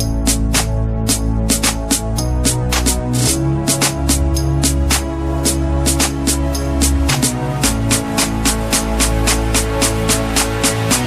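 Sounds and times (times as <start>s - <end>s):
electronic music with bass line: 0.0s - 11.0s.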